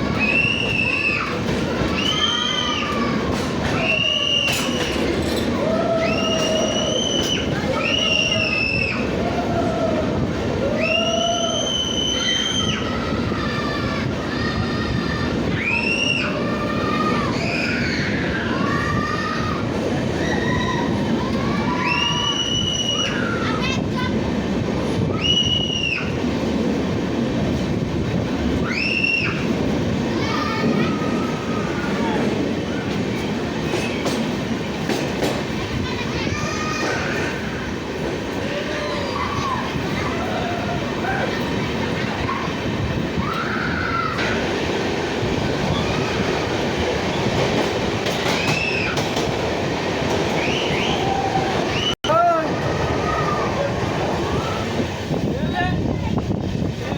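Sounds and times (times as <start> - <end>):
train rumbling: 0.0 - 56.9
wheels squealing on rails: 0.0 - 56.9.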